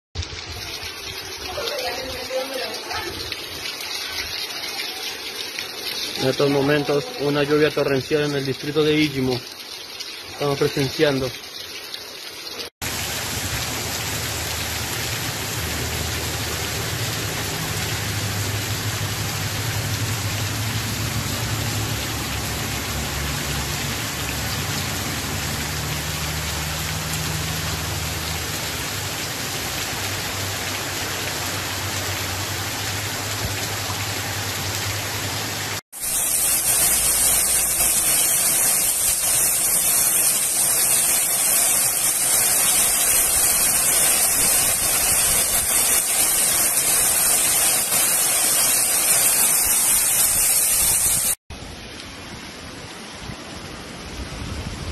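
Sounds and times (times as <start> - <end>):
torrential rain pouring: 0.2 - 54.9.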